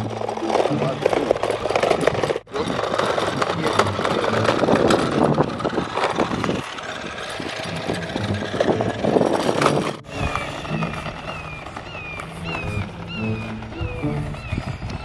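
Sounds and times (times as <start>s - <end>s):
scooter wheels rattling on pavement: 0.0s - 15.0s.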